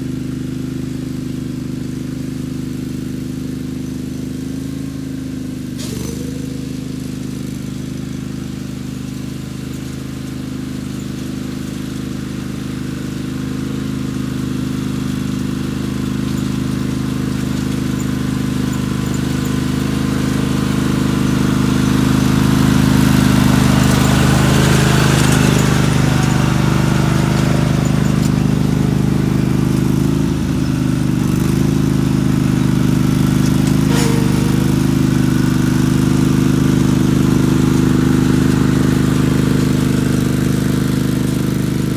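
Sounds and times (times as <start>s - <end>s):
tractor engine under load: 1.6s - 41.9s.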